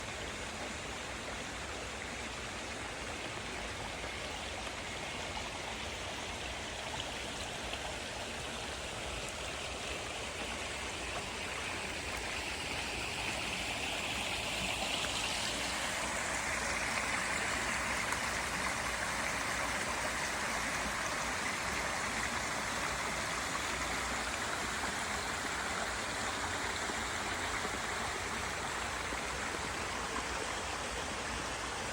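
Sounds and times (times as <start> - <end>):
creek water running over rocks: 0.0 - 31.9.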